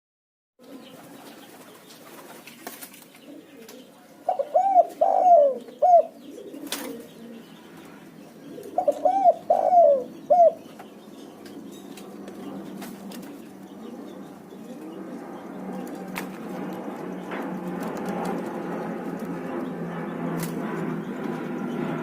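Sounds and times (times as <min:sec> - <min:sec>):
dove cooing: 0:00.6 - 0:02.0, 0:03.2 - 0:22.0.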